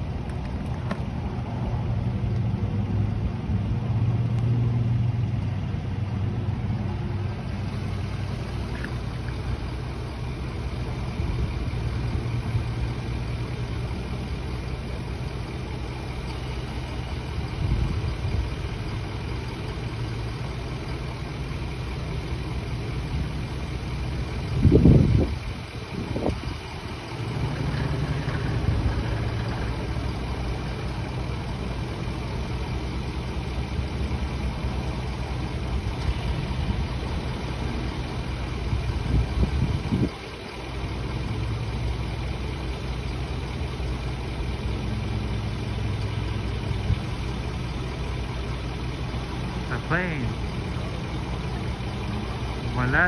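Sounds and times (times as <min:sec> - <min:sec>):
engine drone: 0:00.0 - 0:53.0.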